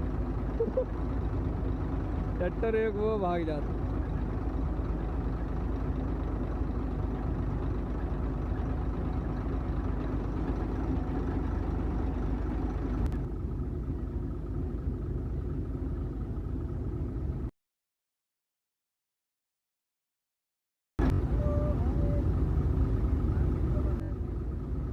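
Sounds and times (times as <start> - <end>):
diesel engine droning: 0.0 - 17.5, 21.0 - 24.9.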